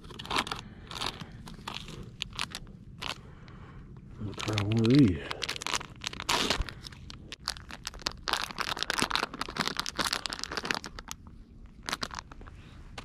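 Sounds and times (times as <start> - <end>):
plastic bag crinkling: 0.0 - 3.2, 4.2 - 12.5.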